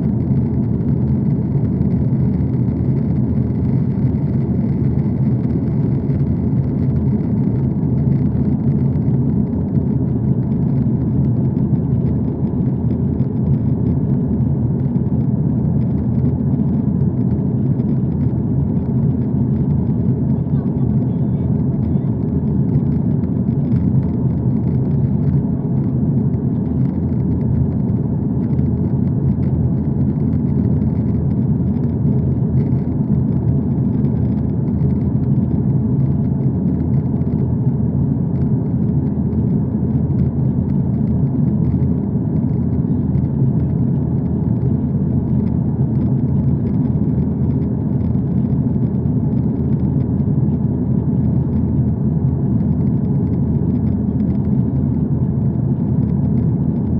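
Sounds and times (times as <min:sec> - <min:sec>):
low rumble of moving vehicle: 0:00.0 - 0:56.9.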